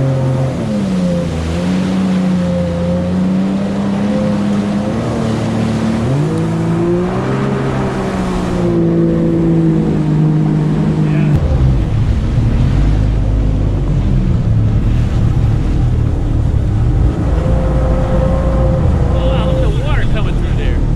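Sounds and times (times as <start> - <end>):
jet ski engine running: 0.0 - 20.9
water and wind rushing: 0.0 - 20.9.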